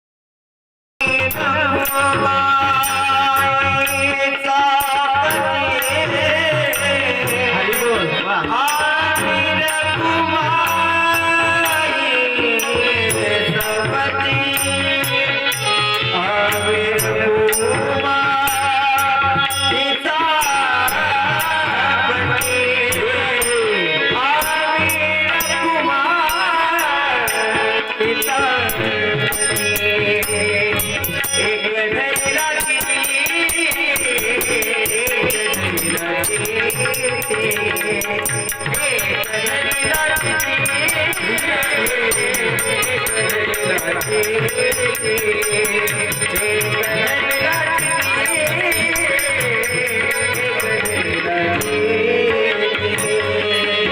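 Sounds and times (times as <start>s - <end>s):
person singing devotional song: 1.0s - 53.9s
rhythmic percussion: 1.0s - 53.9s.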